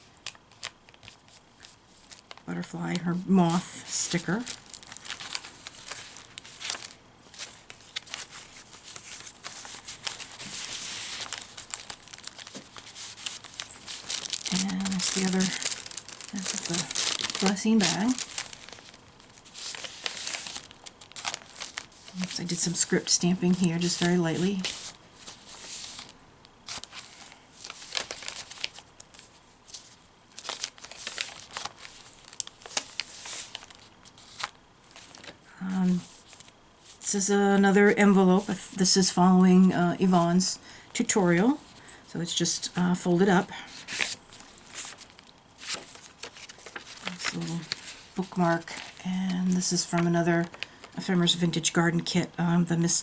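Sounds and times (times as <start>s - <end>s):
paper rustling and crinkling: 0.0s - 40.3s, 41.0s - 51.7s.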